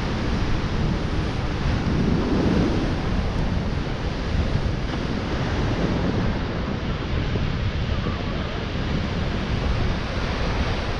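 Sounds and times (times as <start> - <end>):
surf breaking on sandy beach: 0.0 - 10.9
wind buffeting microphone: 0.0 - 10.9.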